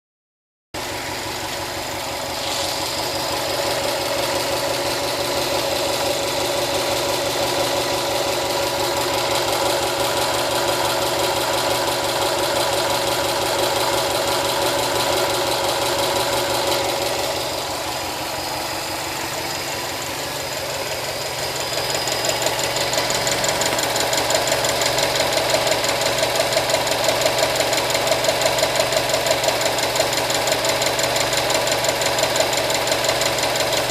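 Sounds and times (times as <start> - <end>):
car engine running: 0.8 - 33.9
rapid engine ticking: 0.8 - 33.9.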